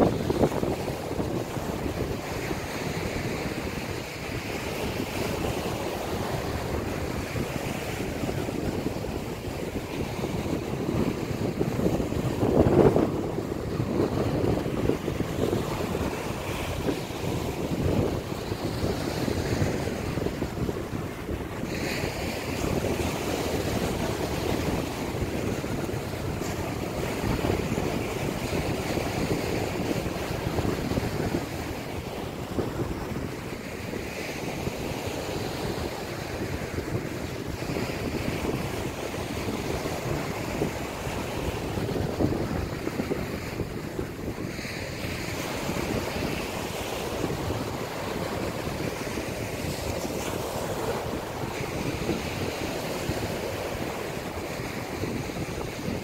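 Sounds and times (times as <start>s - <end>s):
waves washing up a beach: 0.0s - 56.0s
wind buffeting microphone: 0.0s - 56.0s.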